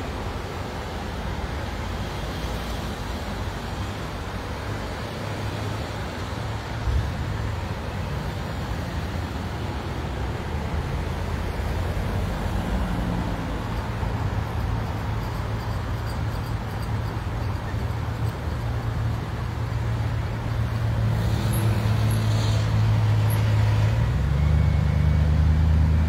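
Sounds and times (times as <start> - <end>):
vehicle engine hum and road noise: 0.0 - 26.0.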